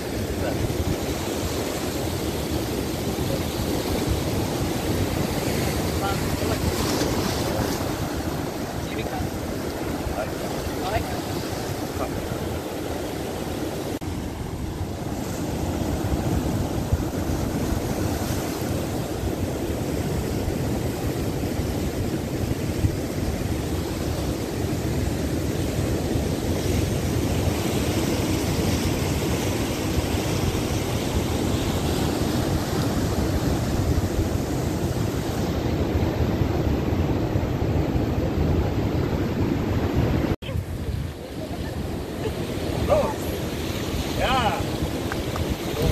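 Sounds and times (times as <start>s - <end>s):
ocean surf breaking on rocks: 0.0s - 45.9s
wind rumbling on microphone: 0.0s - 45.9s.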